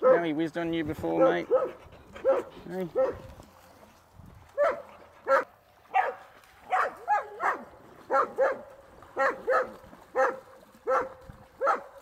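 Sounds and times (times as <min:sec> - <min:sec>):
dog barking: 0:00.0 - 0:00.3, 0:01.2 - 0:03.2, 0:04.6 - 0:11.9.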